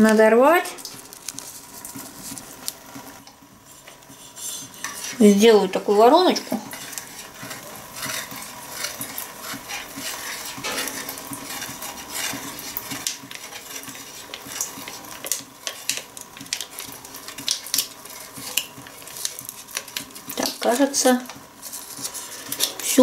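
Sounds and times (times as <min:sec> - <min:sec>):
spoon stirring milk in pot: 0:03.3 - 0:23.0.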